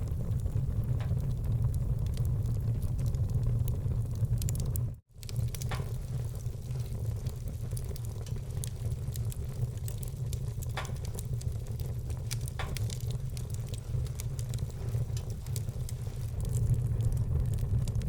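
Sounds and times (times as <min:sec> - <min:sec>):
steady low rumble: 0:00.0 - 0:18.0
wood fire crackling and popping: 0:00.0 - 0:18.0.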